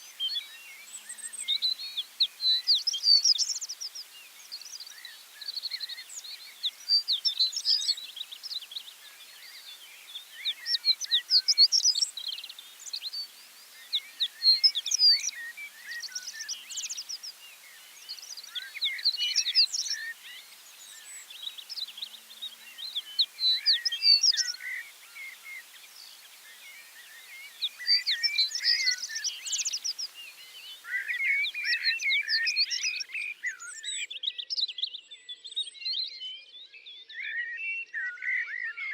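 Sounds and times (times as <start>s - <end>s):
light outdoor hiss: 0.0s - 35.6s
songbirds singing: 0.0s - 38.9s.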